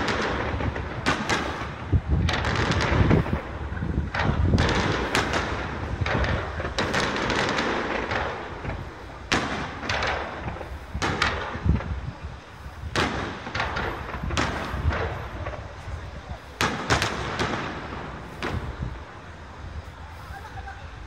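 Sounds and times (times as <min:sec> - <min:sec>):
firework shells bursting: 0:00.0 - 0:19.8.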